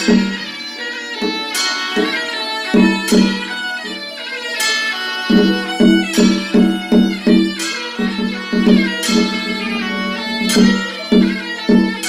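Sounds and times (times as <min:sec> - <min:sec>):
plucked strings: 0:00.0 - 0:04.6, 0:05.3 - 0:12.0
bowed fiddle melody: 0:00.0 - 0:12.0.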